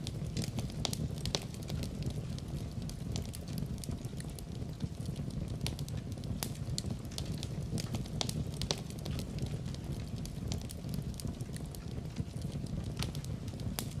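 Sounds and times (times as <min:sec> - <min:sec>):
fireplace fire crackling and popping: 0:00.0 - 0:14.0.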